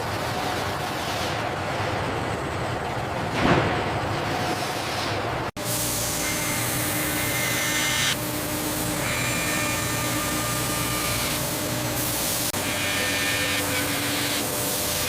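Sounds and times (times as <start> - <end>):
hissing machine noise: 0.0 - 15.0.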